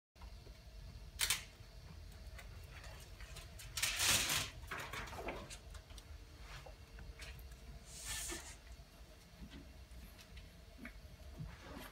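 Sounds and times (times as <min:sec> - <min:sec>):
low steady hum: 0:00.2 - 0:11.9.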